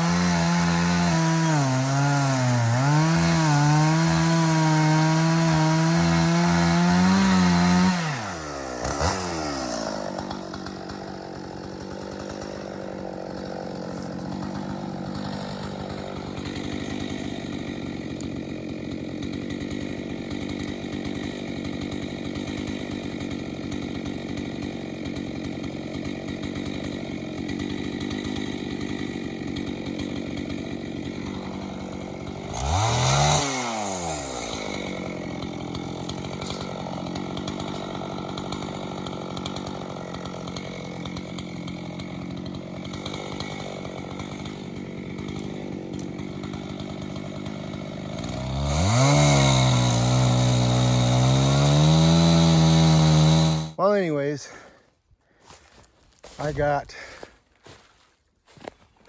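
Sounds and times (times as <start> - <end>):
chainsaw revving and idling: 0.0 - 55.6, 56.2 - 59.0.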